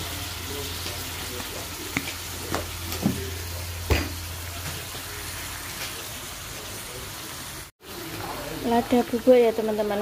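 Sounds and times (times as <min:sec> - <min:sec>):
oil sizzling in a wok: 0:00.0 - 0:10.0.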